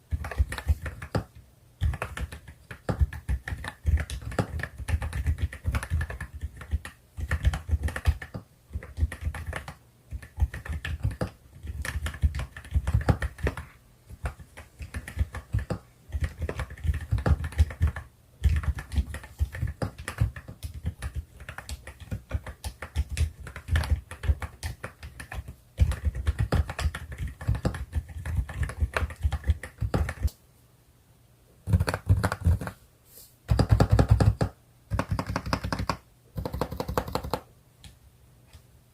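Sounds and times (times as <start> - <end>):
fast typing on mechanical keyboard: 0.1 - 30.3, 31.7 - 32.8, 33.5 - 37.5.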